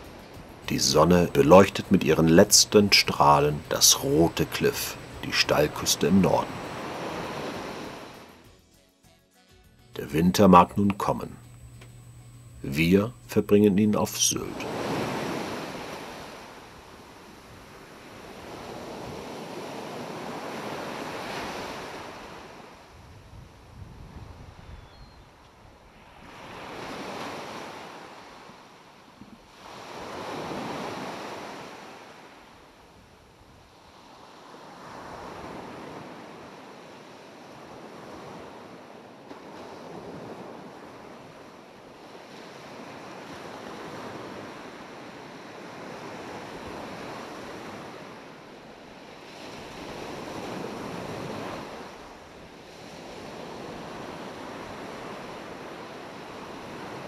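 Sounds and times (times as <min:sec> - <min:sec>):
surf washing up a beach: 0:00.0 - 0:08.4, 0:12.7 - 0:24.7, 0:25.8 - 0:57.0.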